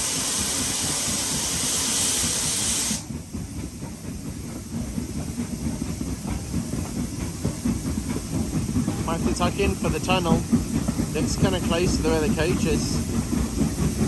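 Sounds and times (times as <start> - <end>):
locomotive steam hiss: 0.0 - 14.0
train rumbling on rails: 0.0 - 14.0.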